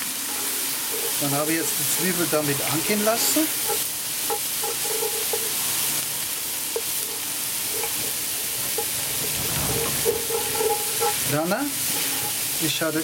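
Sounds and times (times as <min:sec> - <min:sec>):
wooden spoon stirring: 0:00.0 - 0:12.7
onions and bacon sizzling: 0:00.0 - 0:13.0.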